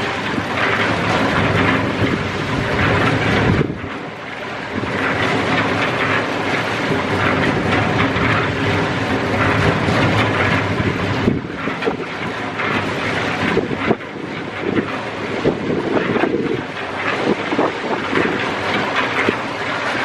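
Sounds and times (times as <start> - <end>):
machinery running: 0.0 - 20.0
wind on microphone: 0.0 - 20.0.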